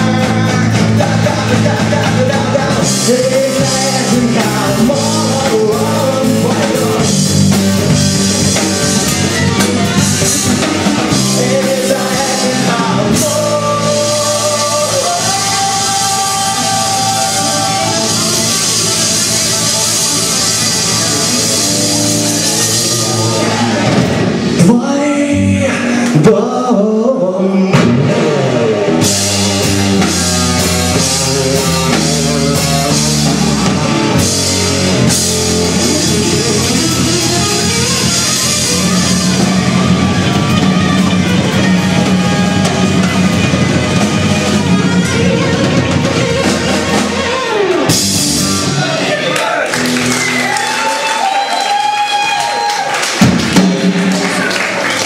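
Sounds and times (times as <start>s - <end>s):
drum kit: 0.0s - 26.6s, 27.5s - 55.0s
person singing: 0.0s - 49.6s
bass guitar: 0.0s - 55.0s
electric guitar: 0.0s - 55.0s.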